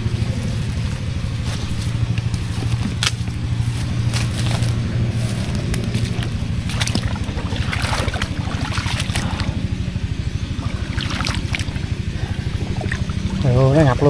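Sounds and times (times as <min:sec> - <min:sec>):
boat engine throbbing: 0:00.0 - 0:14.0
water splashing: 0:01.6 - 0:14.0.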